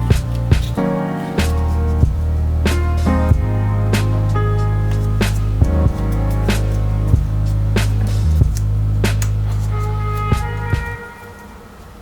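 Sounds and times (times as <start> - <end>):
background music with low bass: 0.0 - 11.1.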